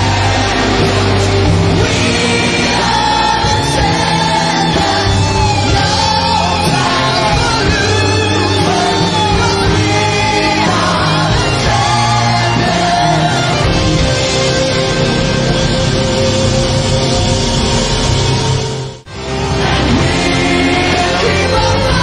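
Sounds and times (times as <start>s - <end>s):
rock music with singing: 0.0s - 22.0s
sustained bass notes: 0.0s - 22.0s.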